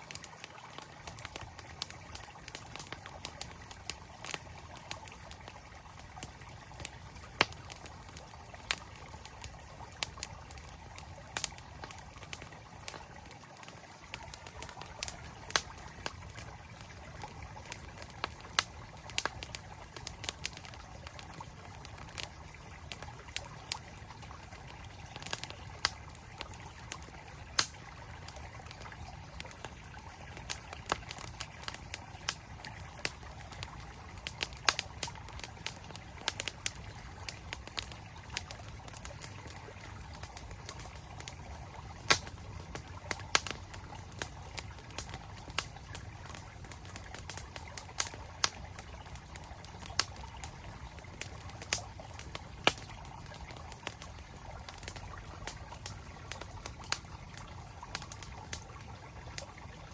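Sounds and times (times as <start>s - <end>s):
campfire crackling: 0.0s - 59.9s
flowing stream: 0.0s - 59.9s.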